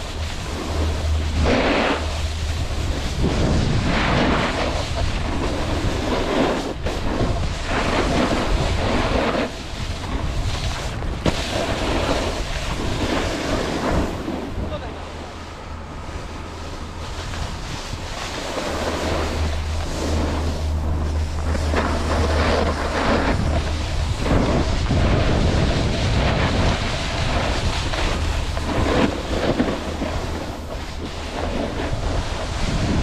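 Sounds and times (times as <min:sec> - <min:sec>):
snowboard scraping on snow: 0:00.0 - 0:33.0
wind rumbling on microphone: 0:00.0 - 0:33.0.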